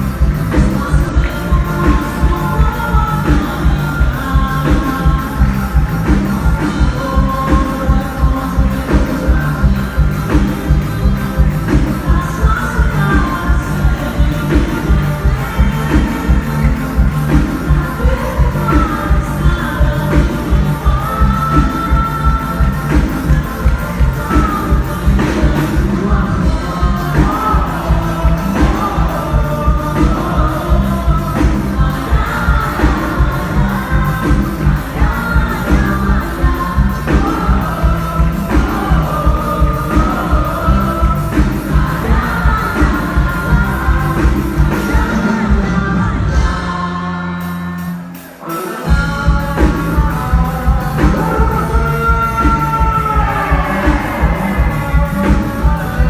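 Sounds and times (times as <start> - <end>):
folk dance music with driving beat: 0.0 - 46.9, 48.9 - 56.0
person singing: 0.0 - 56.0.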